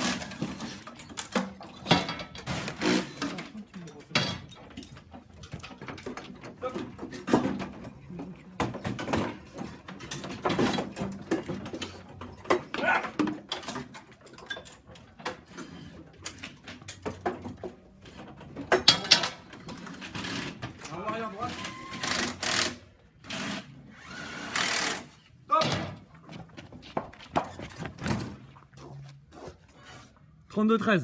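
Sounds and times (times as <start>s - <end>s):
clatter of hand tools and parts: 0.0s - 30.4s.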